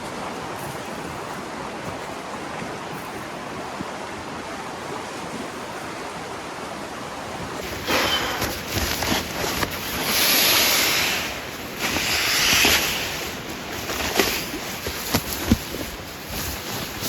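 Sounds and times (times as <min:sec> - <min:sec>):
river water rushing and splashing: 0:00.0 - 0:17.0.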